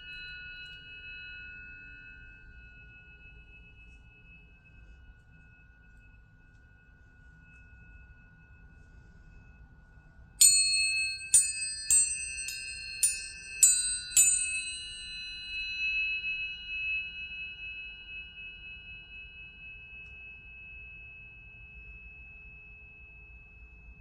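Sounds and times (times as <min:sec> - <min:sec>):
tuning forks ringing: 0:00.0 - 0:24.0.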